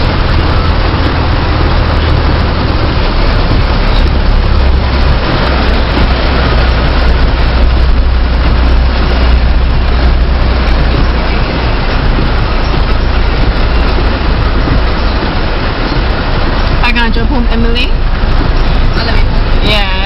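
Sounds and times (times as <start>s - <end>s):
car engine and road drone: 0.0s - 20.0s
hiss of rain and water: 0.0s - 20.0s.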